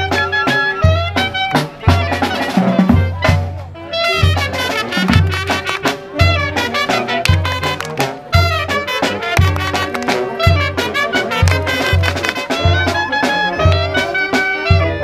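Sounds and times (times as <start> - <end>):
trumpets and horns: 0.0 - 15.0.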